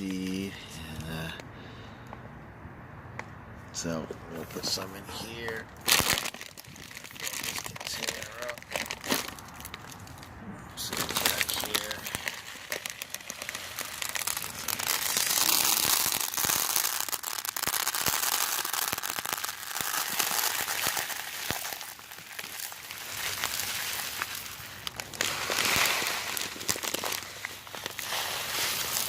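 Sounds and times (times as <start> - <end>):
seed bag crinkling: 4.5 - 29.0
seeds spilling and rattling: 4.6 - 10.2, 10.8 - 29.0.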